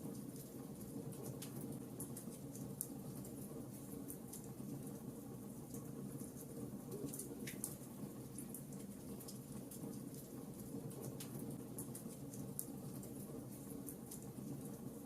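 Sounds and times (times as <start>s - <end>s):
fire popping and snapping: 0.0s - 15.0s
wood fire rumbling: 0.0s - 15.0s.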